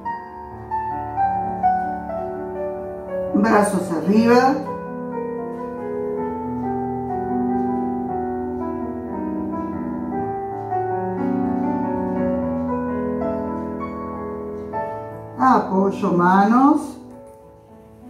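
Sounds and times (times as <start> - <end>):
calm keyboard music: 0.0 - 18.0.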